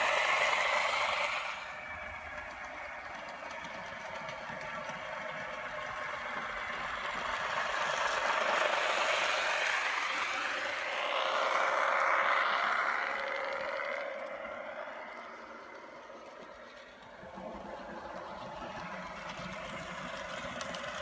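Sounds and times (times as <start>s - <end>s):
model train motor whirring: 0.0s - 21.0s.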